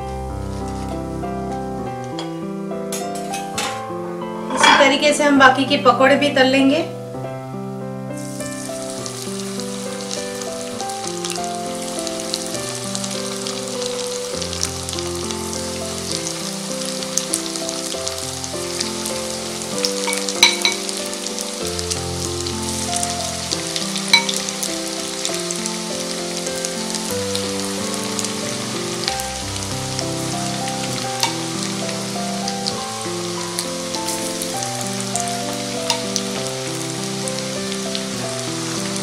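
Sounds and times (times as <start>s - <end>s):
deep-frying sizzle in oil: 0.0s - 2.2s, 7.7s - 39.0s
slow background music: 0.0s - 39.0s.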